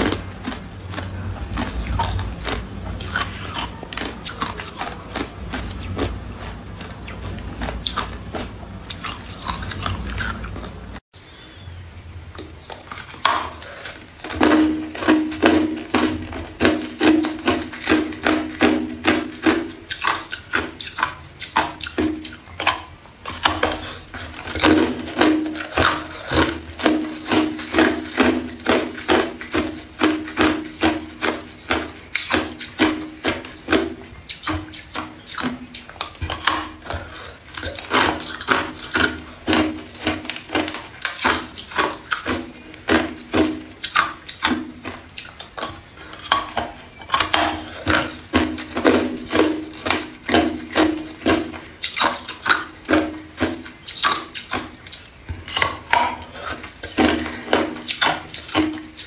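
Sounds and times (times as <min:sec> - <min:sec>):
ice crunching while chewed: 0:00.0 - 0:11.0, 0:12.4 - 0:59.0.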